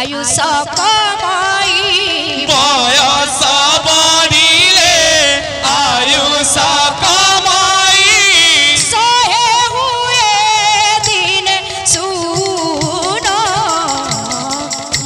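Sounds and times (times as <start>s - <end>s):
drum accompaniment: 0.0s - 15.0s
ornamented sung melody: 0.0s - 15.0s.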